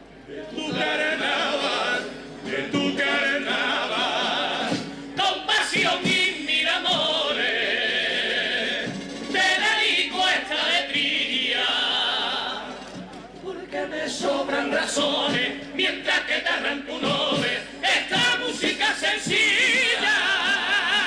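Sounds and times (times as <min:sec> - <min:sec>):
men singing in chorus: 0:00.3 - 0:12.8, 0:13.4 - 0:21.0.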